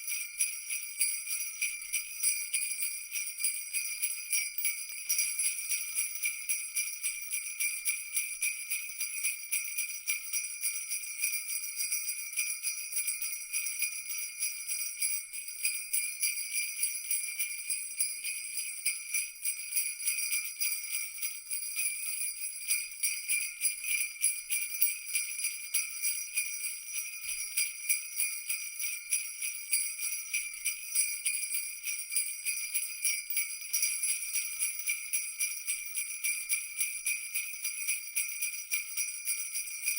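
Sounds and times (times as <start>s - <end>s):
jingle bells shaken: 0.0s - 39.9s.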